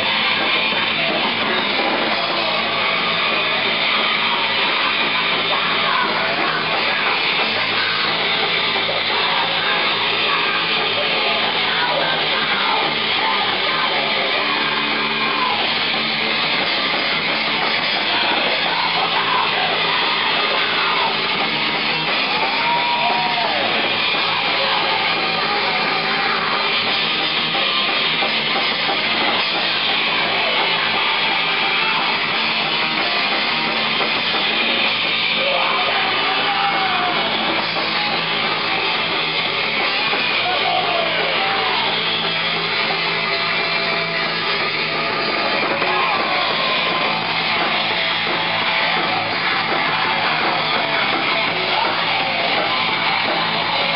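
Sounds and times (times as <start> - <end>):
shouted vocals: 0.0 - 53.9
thrash metal band playing: 0.0 - 53.9.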